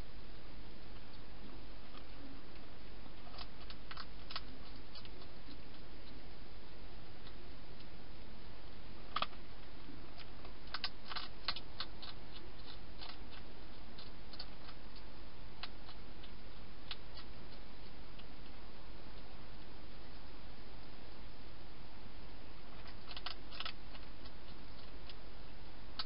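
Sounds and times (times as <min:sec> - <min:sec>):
hedgehog crunching food: 0:00.3 - 0:08.0, 0:09.0 - 0:20.3, 0:22.6 - 0:26.0.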